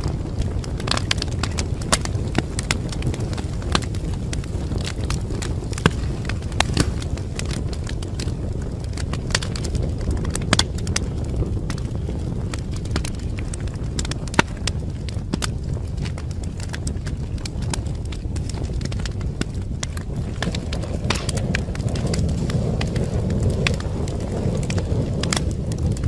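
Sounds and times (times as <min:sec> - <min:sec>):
low rush of burning: 0:00.0 - 0:26.0
wood fire crackling and popping: 0:00.0 - 0:26.0.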